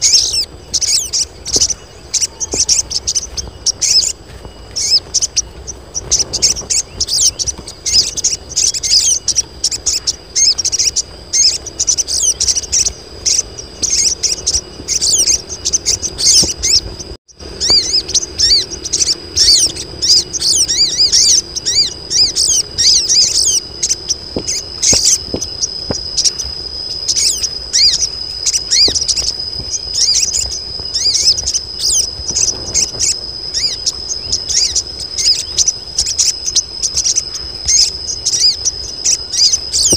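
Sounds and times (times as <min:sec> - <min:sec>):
birds chirping and twittering: 0:00.0 - 0:39.9
high insect-like trill: 0:00.0 - 0:39.9.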